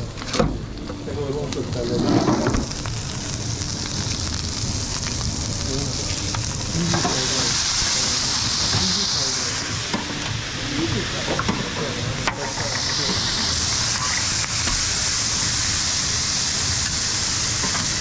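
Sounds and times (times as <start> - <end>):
vegetables sizzling on griddle: 0.0 - 18.0.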